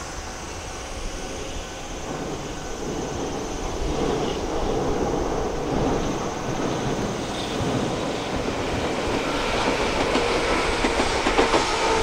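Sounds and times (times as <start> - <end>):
train wheels rumbling on bridge: 0.0 - 12.0.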